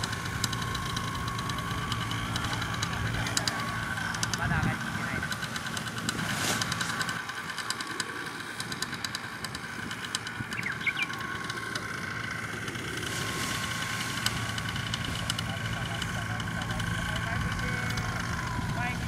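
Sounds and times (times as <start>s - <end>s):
paramotor engine idling: 0.0s - 19.0s.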